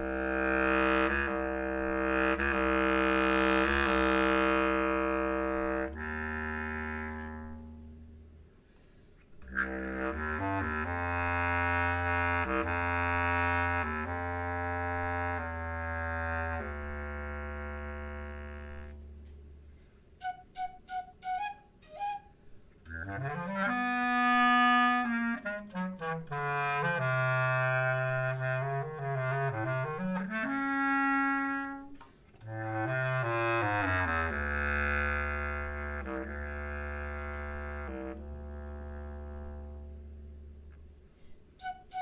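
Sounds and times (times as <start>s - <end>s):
flute and clarinet duet: 0.0s - 8.0s, 9.4s - 19.3s, 20.2s - 40.5s, 41.6s - 42.0s.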